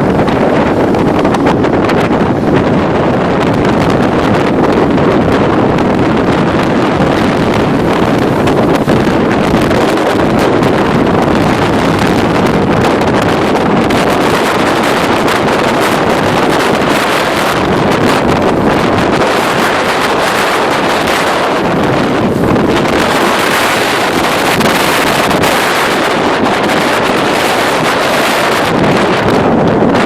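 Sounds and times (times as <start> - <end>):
strong wind on microphone: 0.0 - 30.0.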